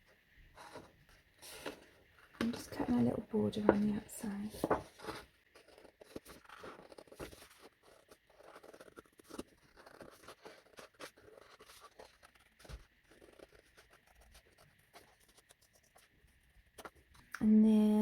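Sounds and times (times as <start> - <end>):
paper rustling: 0.6 - 16.1.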